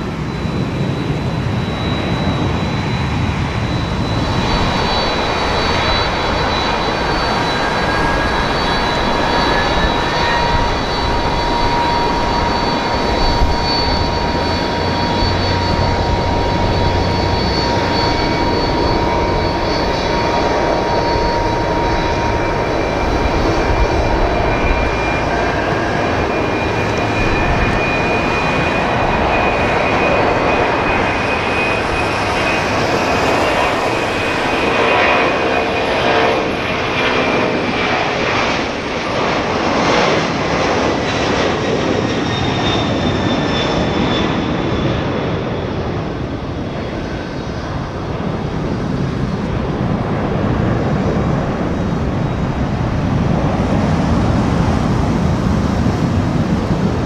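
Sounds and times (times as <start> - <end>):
high whining engine tones: 0.0 - 57.0
jet engines roaring at takeoff: 0.0 - 57.0.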